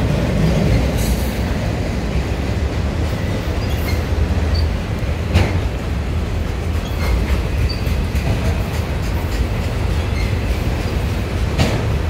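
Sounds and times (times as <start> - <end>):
train wheels rumbling on rail: 0.0 - 12.0
wheels clicking over rail joints: 0.0 - 12.0.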